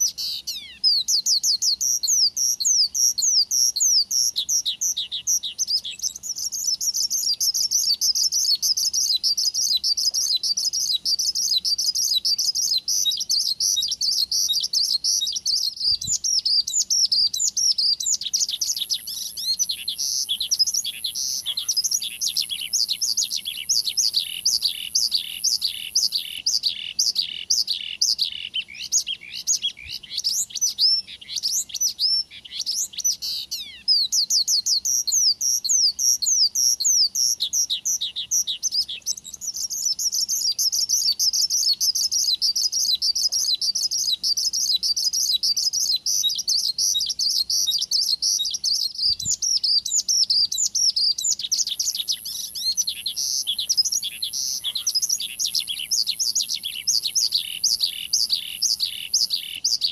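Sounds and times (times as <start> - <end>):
bird singing chirps and whistles: 0.0 - 59.9.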